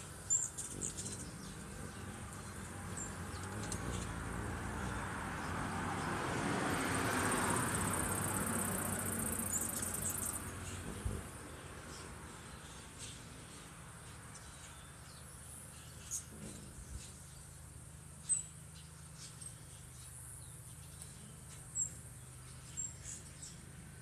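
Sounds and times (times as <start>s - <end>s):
small bird chirping sharply: 0.0s - 4.2s, 8.0s - 10.9s, 11.5s - 23.8s.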